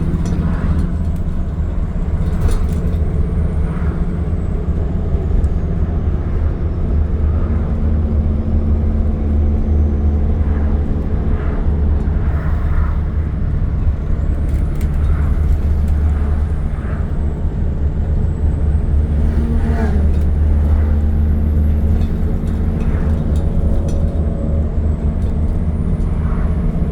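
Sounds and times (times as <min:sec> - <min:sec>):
bus engine drone: 0:00.0 - 0:26.9
road noise: 0:00.0 - 0:26.9.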